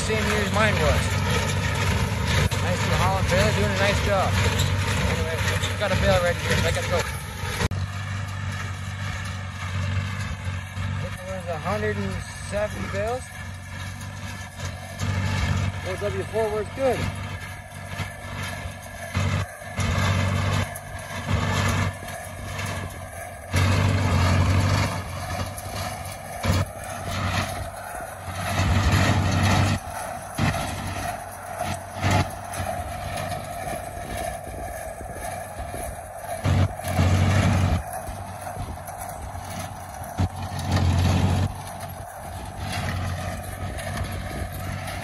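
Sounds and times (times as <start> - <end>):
baler working: 0.0 - 45.0
tractor engine running: 0.0 - 45.0.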